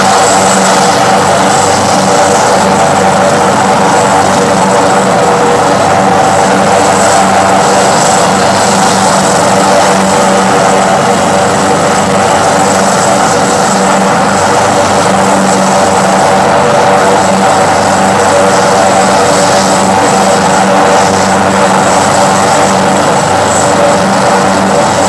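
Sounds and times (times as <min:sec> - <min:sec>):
helicopter turbine and rotor: 0:00.0 - 0:25.0.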